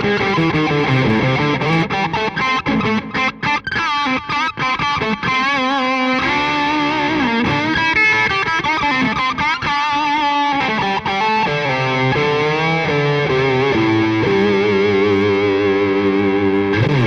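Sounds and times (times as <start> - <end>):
distorted electric guitar lead: 0.0 - 17.0.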